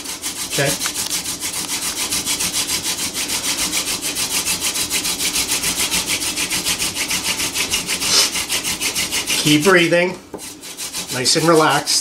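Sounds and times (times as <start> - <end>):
hand drill grinding into wood: 0.0 - 12.0.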